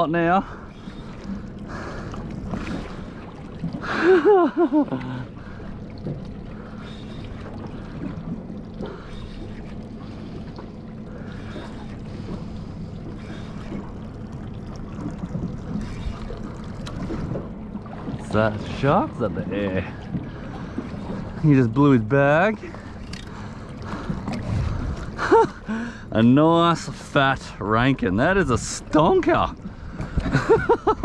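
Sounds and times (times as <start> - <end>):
outboard motor idling: 0.0 - 31.0
water sloshing against hull: 0.0 - 31.0.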